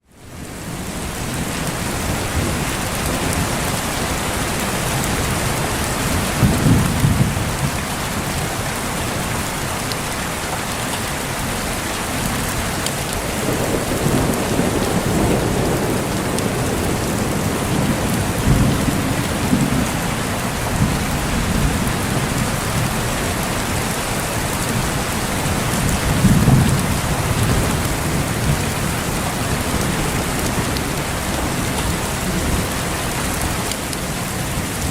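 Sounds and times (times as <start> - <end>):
heavy rain falling: 0.0 - 34.9
thunder rumbling: 0.8 - 9.7, 11.6 - 34.9.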